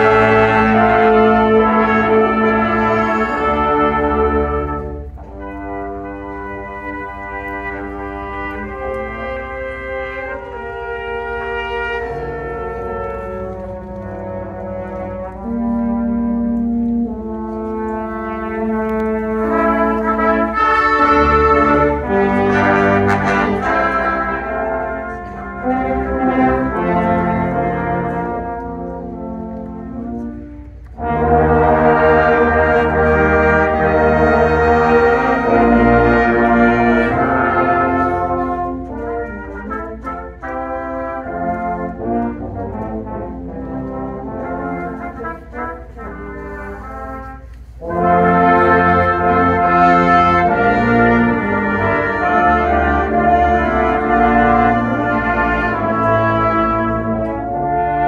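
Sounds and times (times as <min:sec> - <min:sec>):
brass choir playing held chords: 0:00.0 - 0:58.0.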